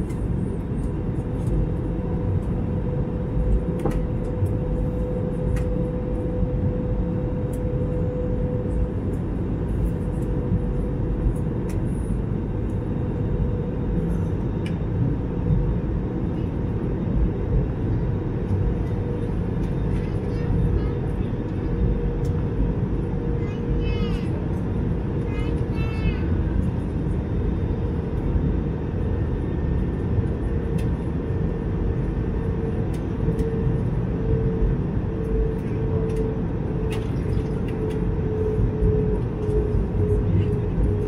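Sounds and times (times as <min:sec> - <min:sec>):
airplane cabin rumble and hum: 0:00.0 - 0:41.0.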